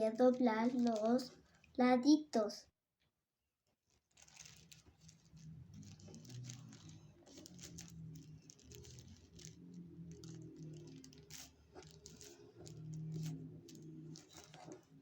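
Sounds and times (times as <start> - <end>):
tissue paper rustling: 0.0 - 1.6, 3.8 - 15.0.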